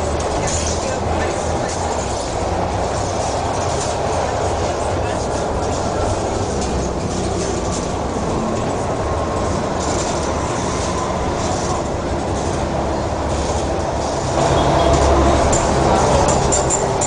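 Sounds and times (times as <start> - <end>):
bus engine running: 0.0 - 17.0
road traffic noise: 0.0 - 17.0.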